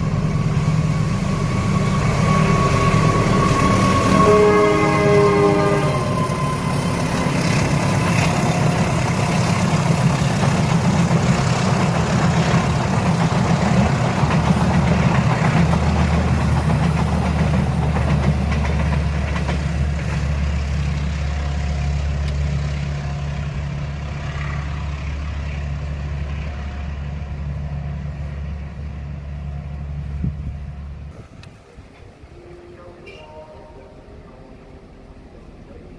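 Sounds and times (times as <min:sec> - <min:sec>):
train wheels rolling on rails: 0:00.0 - 0:30.2, 0:31.1 - 0:35.9
diesel locomotive engine drone: 0:00.0 - 0:35.9.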